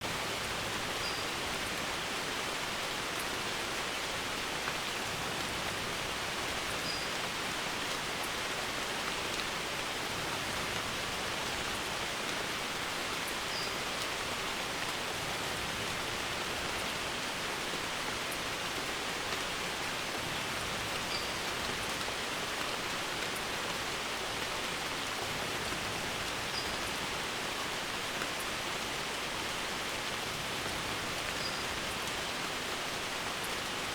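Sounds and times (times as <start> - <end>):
rain on a roof: 0.0 - 33.9.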